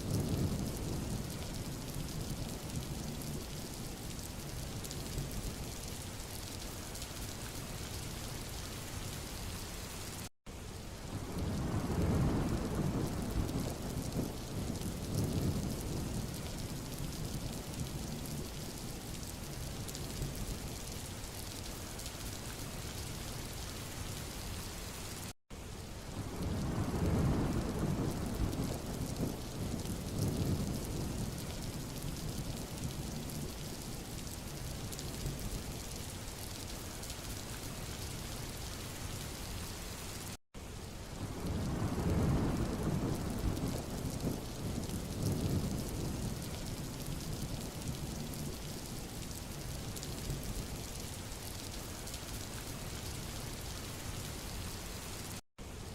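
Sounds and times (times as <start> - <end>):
rain falling on road: 0.0 - 55.9.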